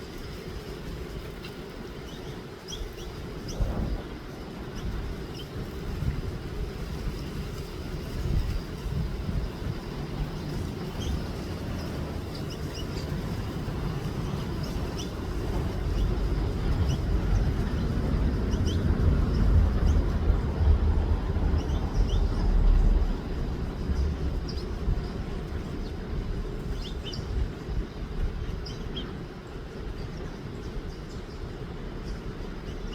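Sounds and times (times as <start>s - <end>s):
small birds chirping: 1.2s - 6.8s, 8.3s - 20.4s, 21.3s - 32.9s
steady low rumble: 2.9s - 32.9s.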